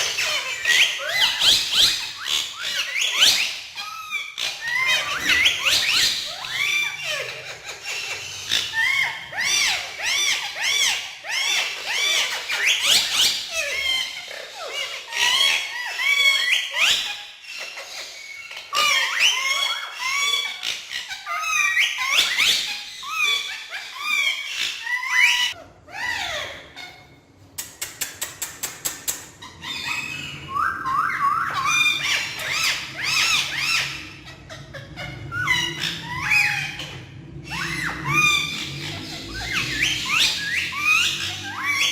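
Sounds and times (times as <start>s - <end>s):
parakeets calling shrilly: 0.0s - 27.5s, 28.7s - 41.9s.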